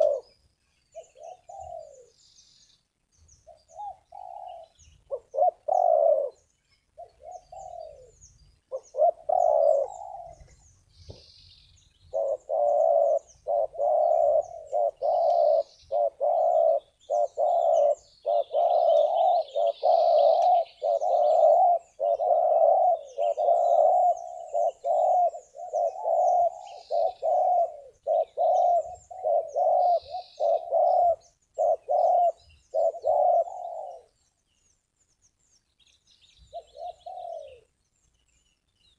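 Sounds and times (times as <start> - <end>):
dove cooing: 0.0 - 2.2, 3.4 - 11.2, 12.1 - 34.2, 36.5 - 37.8
small birds chirping: 0.0 - 38.9.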